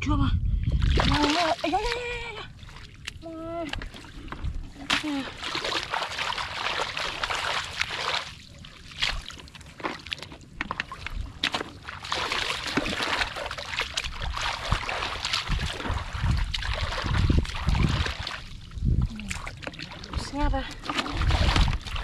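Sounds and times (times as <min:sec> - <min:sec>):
water splashing from wading: 0:00.7 - 0:22.0.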